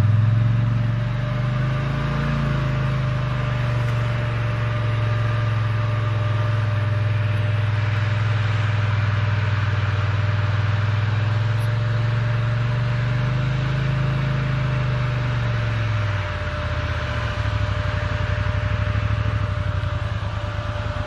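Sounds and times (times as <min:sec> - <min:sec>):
vehicle engine running steadily: 0:00.0 - 0:21.0.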